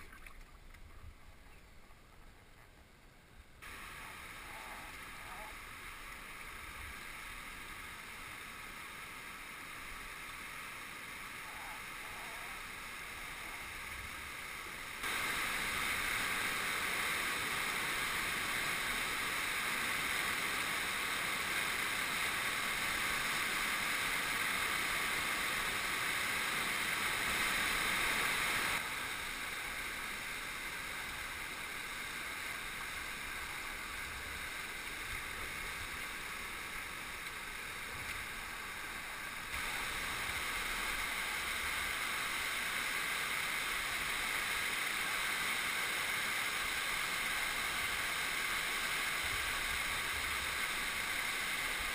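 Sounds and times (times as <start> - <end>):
rushing river rapids: 3.6 - 51.9.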